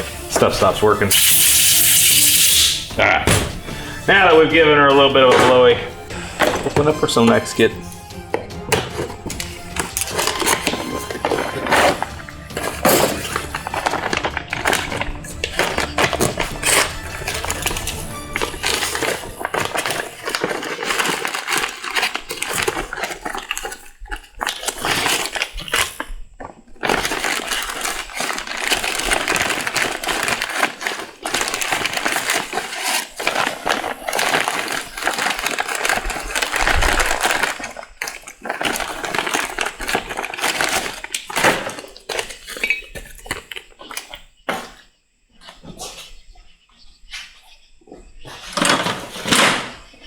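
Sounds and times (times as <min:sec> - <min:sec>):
plastic packaging crinkling: 0:00.0 - 0:44.4.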